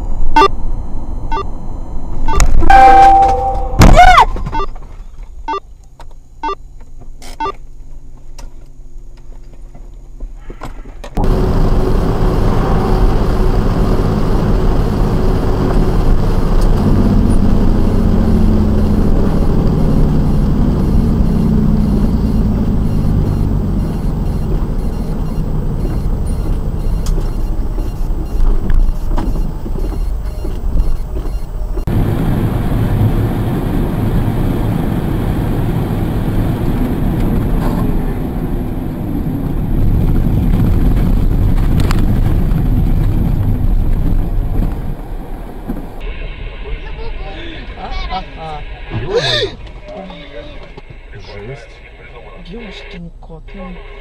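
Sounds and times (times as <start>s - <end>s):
vehicle engine and tyre rumble: 0.0s - 3.5s, 4.3s - 54.0s
quiet city driving: 0.0s - 54.0s.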